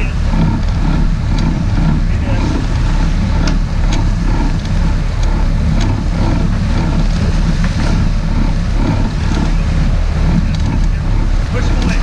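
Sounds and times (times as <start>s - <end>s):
boat engine running: 0.0s - 12.0s
water splashing along hull: 0.0s - 12.0s.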